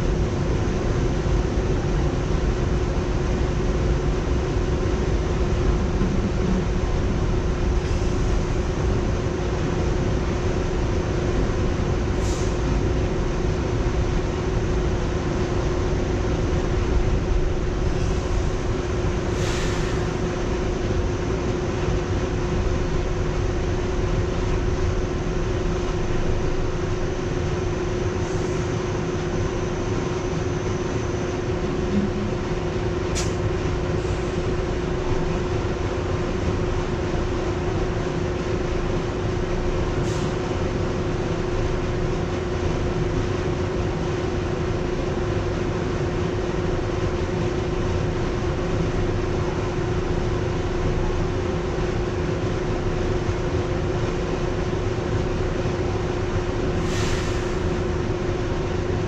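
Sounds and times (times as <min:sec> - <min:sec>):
constant hum: 0:00.0 - 0:59.0
train wheels rumbling on rail: 0:00.0 - 0:59.0.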